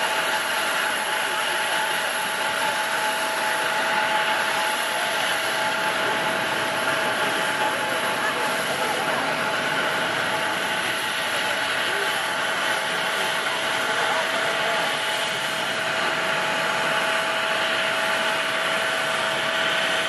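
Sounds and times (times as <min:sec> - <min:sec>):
jet engine rush with whine: 0:00.0 - 0:20.0.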